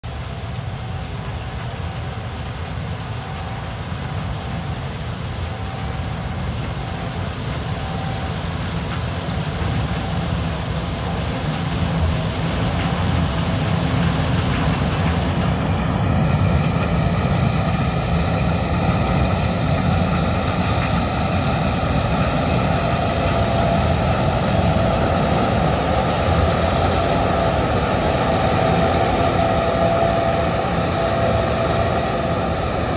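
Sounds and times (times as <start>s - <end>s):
combine harvester running: 0.0s - 32.9s.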